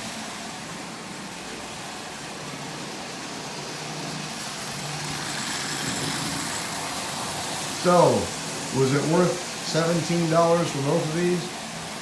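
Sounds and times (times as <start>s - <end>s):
toy train motor hum: 0.0s - 12.0s
wheels rattling on rails: 0.0s - 12.0s.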